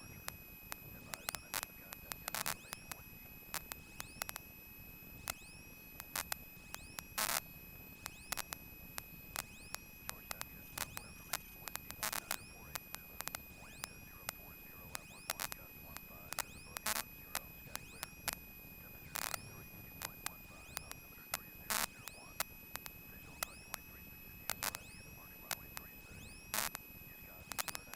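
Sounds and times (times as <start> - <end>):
clicks and crackles: 0.0 - 27.9
low hiss: 0.0 - 27.9
steady high whine: 0.0 - 27.9.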